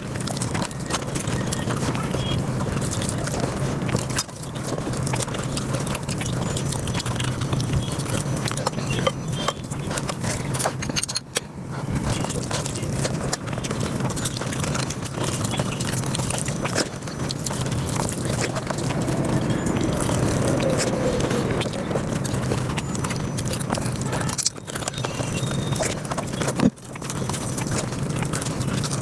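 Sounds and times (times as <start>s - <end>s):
sped-up chewing and mouth clicks: 0.0s - 29.0s.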